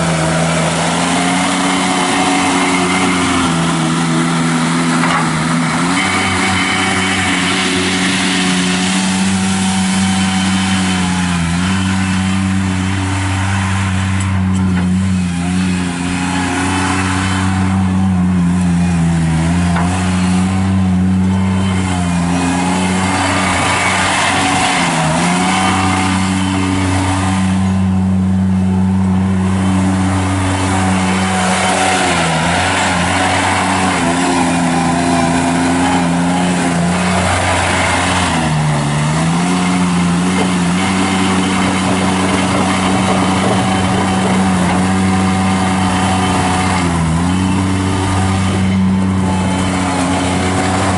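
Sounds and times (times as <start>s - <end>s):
loader diesel engine running: 0.0s - 50.9s.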